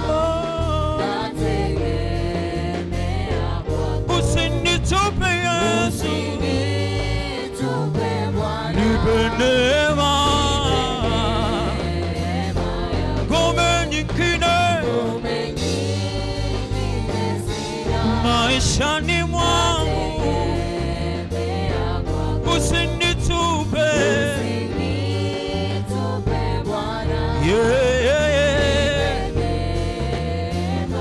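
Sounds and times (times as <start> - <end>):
choir singing a hymn: 0.0 - 31.0
instrumental backing with bass: 0.0 - 31.0.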